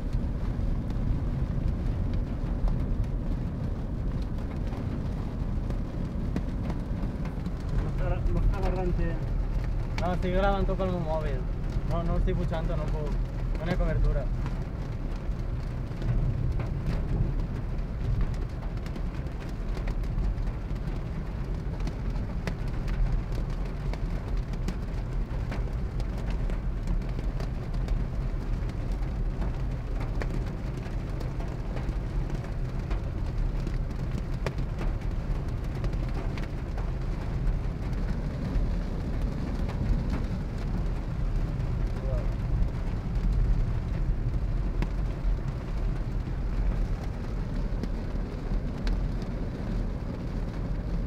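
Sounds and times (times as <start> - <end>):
car engine and tyres rumbling: 0.0 - 51.0
heavy rain on car roof: 0.0 - 51.0.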